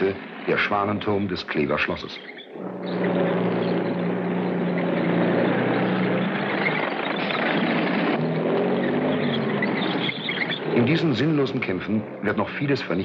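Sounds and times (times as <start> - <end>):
tank engine running: 2.5 - 13.0.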